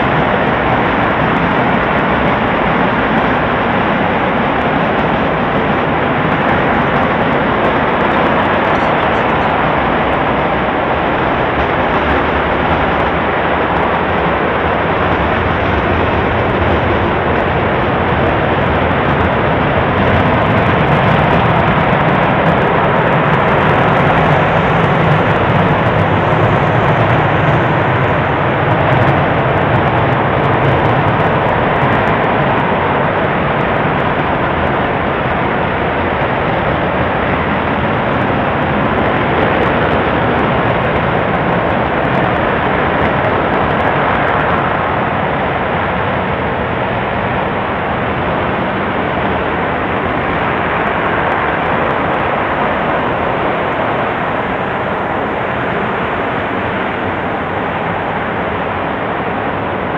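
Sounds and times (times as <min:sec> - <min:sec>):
rocket engine roaring: 0:00.0 - 0:59.9.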